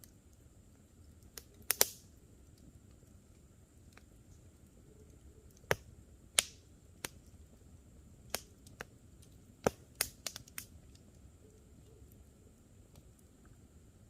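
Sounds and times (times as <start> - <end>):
campfire crackling and popping: 0.0 - 14.0
low steady fire hiss: 0.0 - 14.0.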